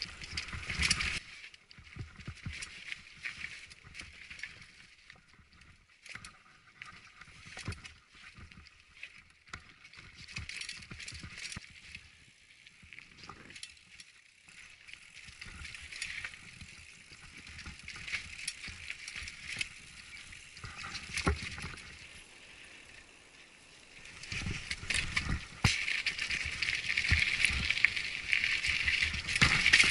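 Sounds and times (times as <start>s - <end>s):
bike knocking and rattling: 0.0s - 22.9s, 23.9s - 29.9s
bike tyres crunching over stones: 0.0s - 29.9s.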